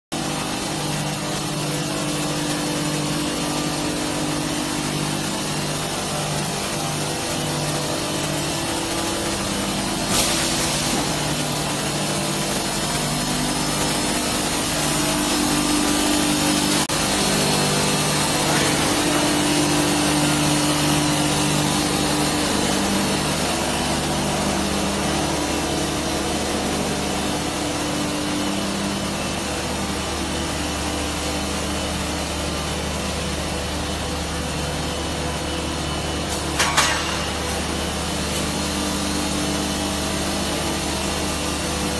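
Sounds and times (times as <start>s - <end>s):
industrial machine noise: 0.1s - 41.9s.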